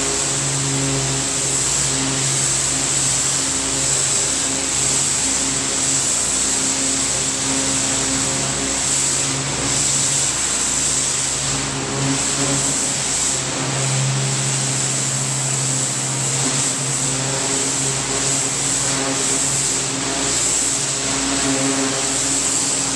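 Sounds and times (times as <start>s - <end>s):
high-pressure spray hissing on concrete: 0.0s - 22.9s
pressure washer engine hum: 0.0s - 22.9s.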